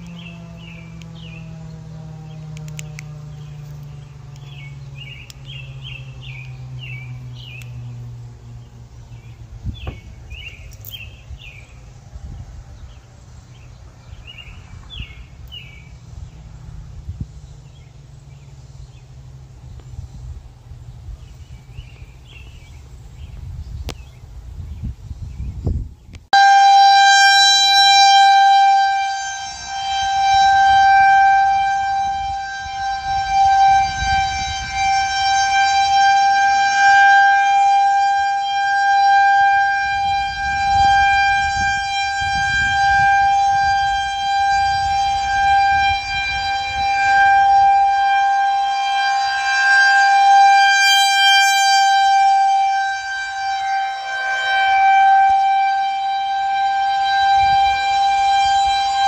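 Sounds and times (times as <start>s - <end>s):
warning siren steady tone: 0.0s - 59.0s.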